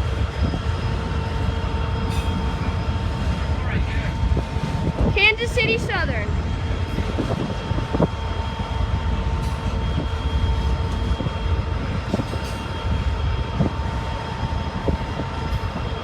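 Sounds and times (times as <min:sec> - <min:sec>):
freight train cars rumbling: 0:00.0 - 0:16.0.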